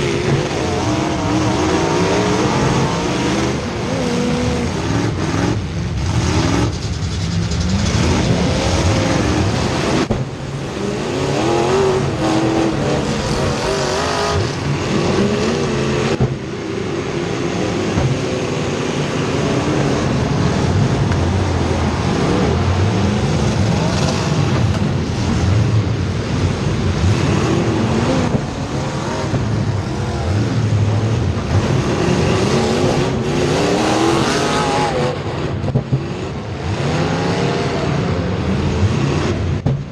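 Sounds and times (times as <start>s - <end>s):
race car engines running hard: 0.0s - 39.9s.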